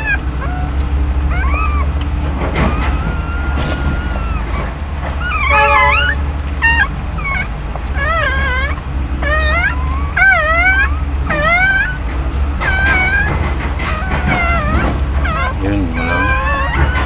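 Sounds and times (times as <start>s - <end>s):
high-pitched newborn animal cries: 0.0s - 17.0s.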